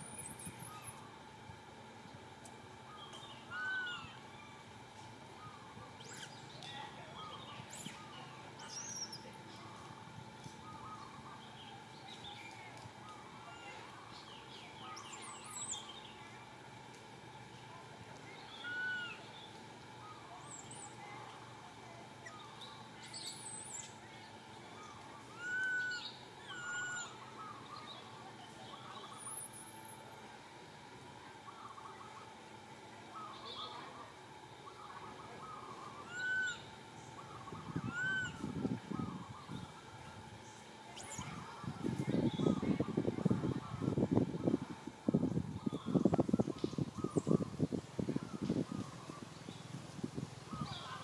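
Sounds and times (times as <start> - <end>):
birds chirping: 2.0 - 30.5, 31.2 - 51.0
rising-and-falling bird calls: 2.8 - 16.4, 18.2 - 21.3, 22.2 - 30.1, 31.2 - 49.8, 50.4 - 51.0.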